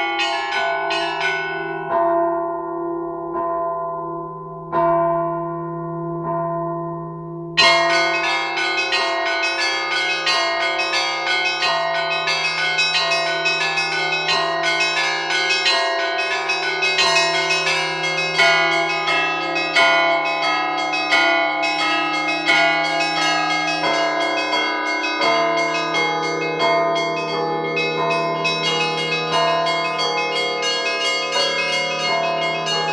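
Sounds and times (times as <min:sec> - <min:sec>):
large bells humming: 0:04.0 - 0:32.9.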